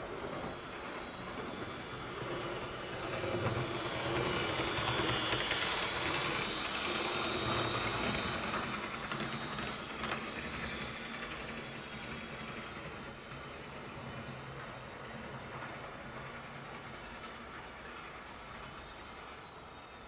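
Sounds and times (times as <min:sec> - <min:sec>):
model train motor whirr: 0:00.0 - 0:20.0
wheel noise on rails: 0:00.0 - 0:20.0.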